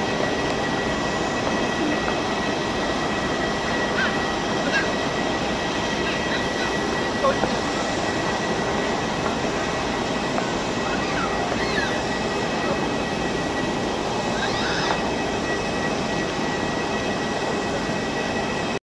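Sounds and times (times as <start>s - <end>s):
jet noise rushing: 0.0s - 18.4s.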